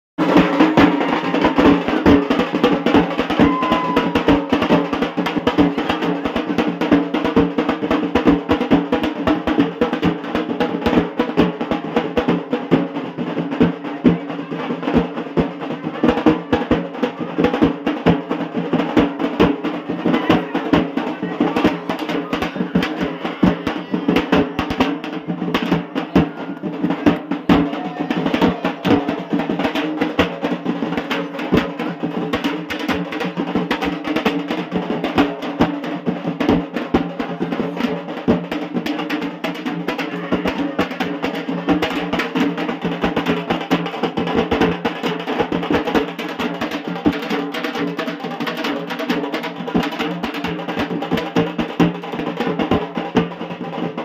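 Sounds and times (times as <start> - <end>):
rapid drumming with sticks: 0.2 - 54.0.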